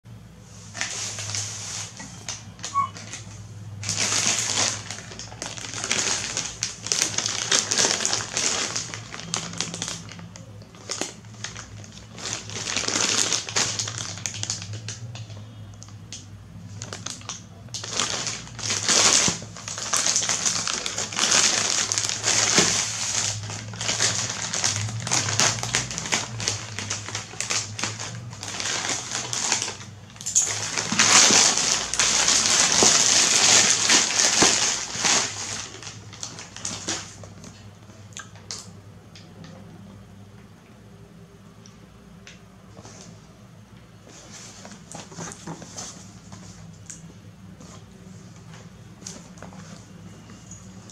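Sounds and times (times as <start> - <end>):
plastic mailer bag crinkling: 0.7 - 16.0, 16.6 - 37.6, 44.0 - 50.9.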